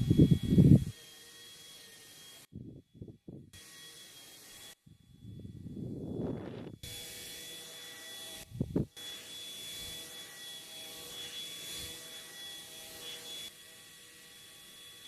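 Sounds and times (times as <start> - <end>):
portable fan whirring: 0.0 - 15.0.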